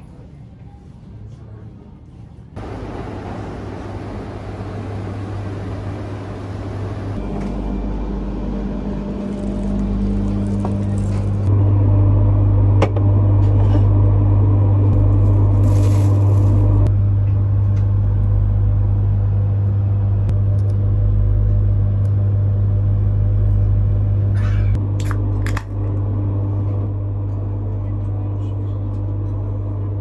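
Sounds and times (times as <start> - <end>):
train carriage hum and rumble: 0.0 - 30.0.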